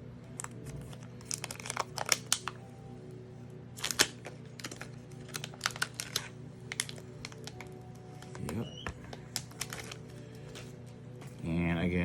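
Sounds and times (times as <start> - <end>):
soft background music: 0.0 - 12.0
plastic wrap crinkling: 0.3 - 2.9, 3.7 - 11.4.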